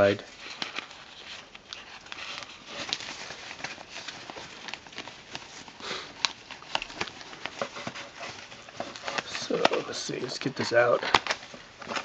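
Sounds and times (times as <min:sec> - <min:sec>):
plastic bag and cloth rustling: 0:00.0 - 0:12.0.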